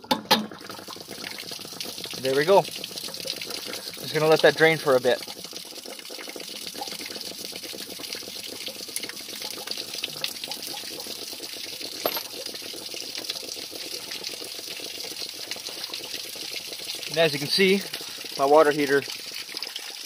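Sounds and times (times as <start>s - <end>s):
water gushing from drain: 0.0s - 20.0s.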